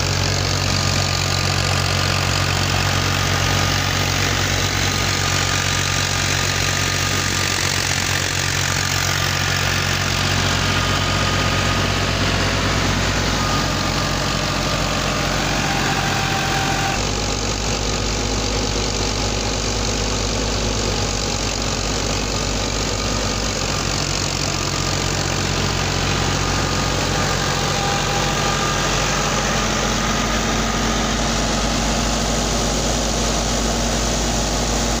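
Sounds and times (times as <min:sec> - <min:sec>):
tractor engine running: 0:00.0 - 0:35.0
wheat thresher running: 0:00.0 - 0:35.0.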